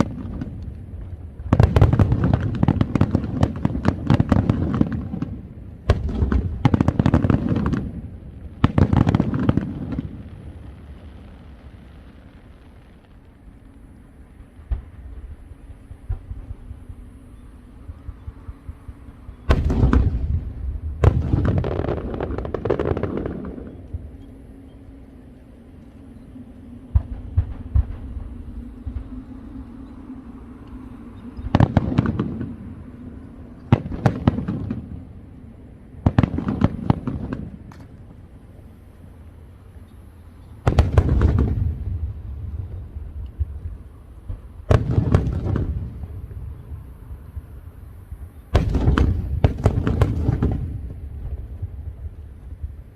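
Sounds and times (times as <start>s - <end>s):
fireworks bangs and crackling: 0.0s - 17.2s, 17.8s - 24.5s, 26.8s - 30.4s, 31.0s - 38.6s, 40.6s - 52.9s.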